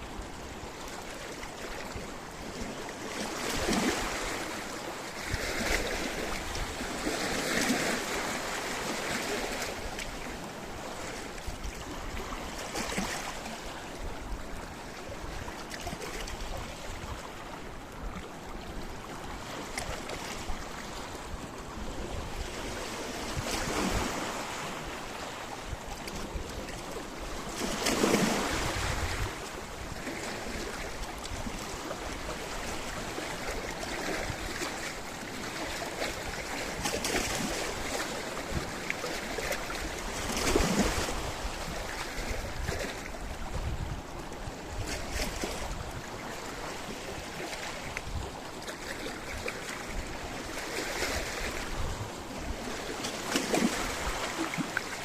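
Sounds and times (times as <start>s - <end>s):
waves breaking on rocky shore: 0.0s - 55.0s.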